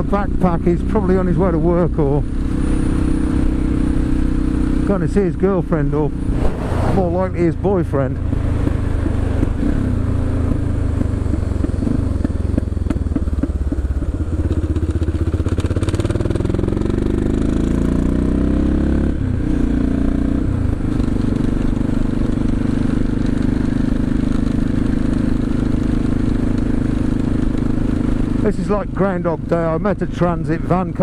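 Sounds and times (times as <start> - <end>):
motorcycle engine exhaust: 0.2 - 18.5, 19.3 - 31.0.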